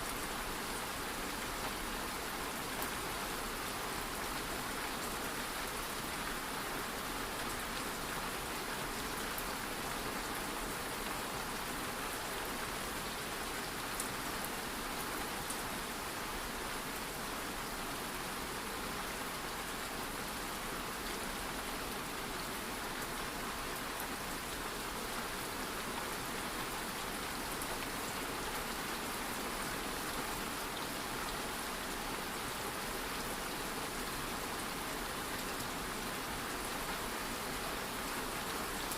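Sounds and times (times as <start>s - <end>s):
light rain falling: 0.0s - 38.9s.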